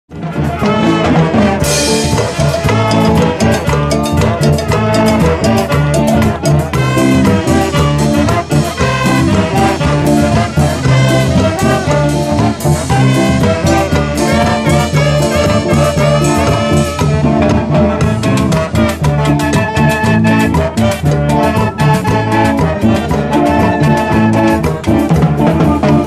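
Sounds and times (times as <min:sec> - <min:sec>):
brass band playing latin dance: 0:00.1 - 0:26.0
steady drumbeat: 0:00.1 - 0:26.0.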